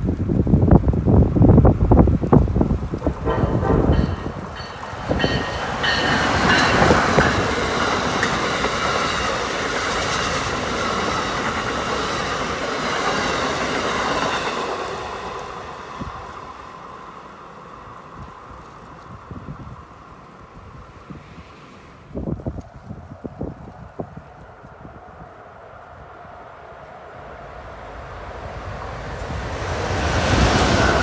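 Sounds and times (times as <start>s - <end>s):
passenger train passing at speed: 0.0s - 31.0s.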